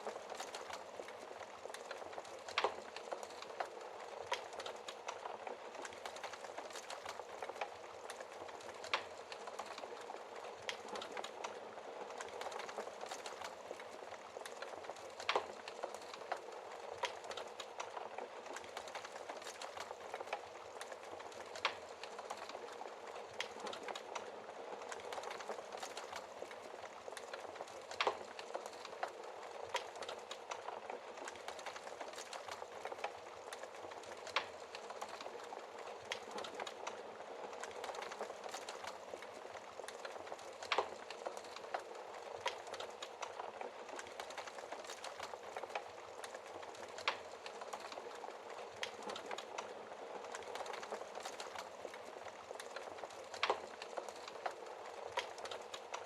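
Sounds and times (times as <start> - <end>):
burning wood popping: 0.0 - 56.0
wood fire crackling: 0.0 - 56.0.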